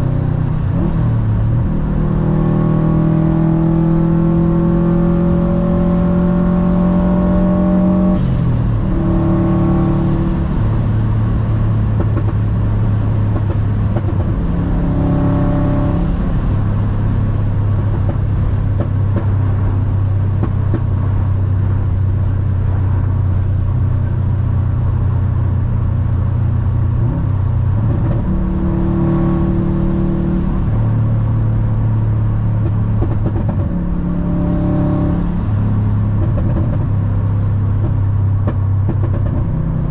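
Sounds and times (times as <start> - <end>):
car engine accelerating: 0.0 - 39.9
road and tyre noise: 0.0 - 39.9.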